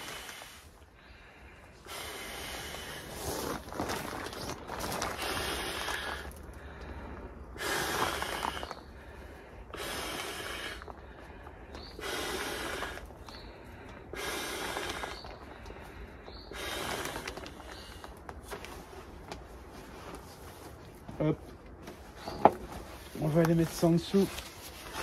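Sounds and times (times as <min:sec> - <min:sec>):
quiet breaths: 0:00.0 - 0:25.0.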